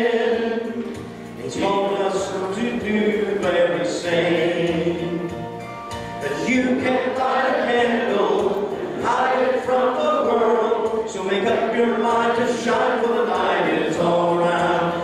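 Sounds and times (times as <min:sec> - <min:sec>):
congregation singing a hymn: 0:00.0 - 0:15.0
man leading on a microphone: 0:01.4 - 0:05.4, 0:06.2 - 0:15.0.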